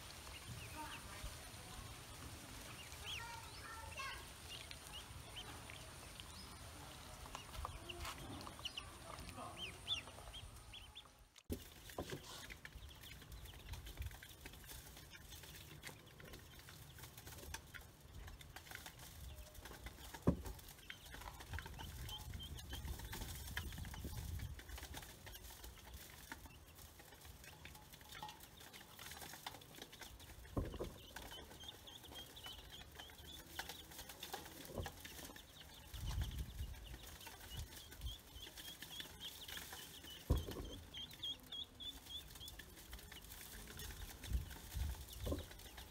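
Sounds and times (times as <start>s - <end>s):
chicks and ducklings cheeping: 0.0s - 45.9s.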